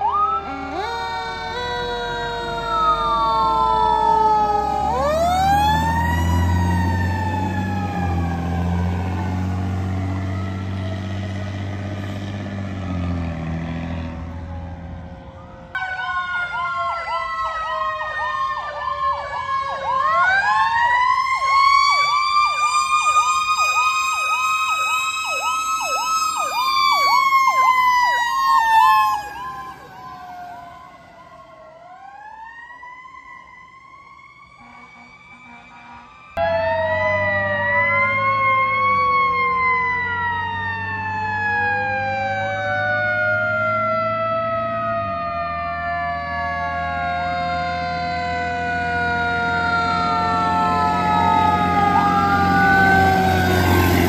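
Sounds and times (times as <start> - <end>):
siren wail: 0.0 - 54.0
siren yelp: 0.0 - 54.0
truck engine rumble: 0.0 - 54.0.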